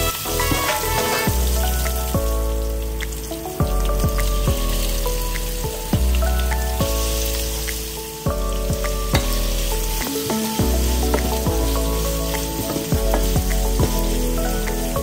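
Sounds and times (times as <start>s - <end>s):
food sizzling in hot oil: 0.0s - 15.0s
instrumental music with beat: 0.0s - 15.0s.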